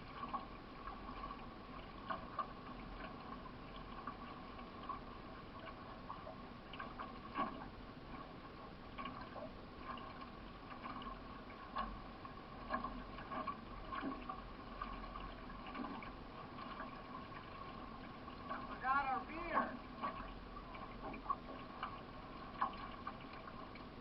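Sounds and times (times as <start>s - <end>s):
paddle strokes splashing: 0.0s - 24.0s
water gurgling along canoe hull: 0.0s - 24.0s.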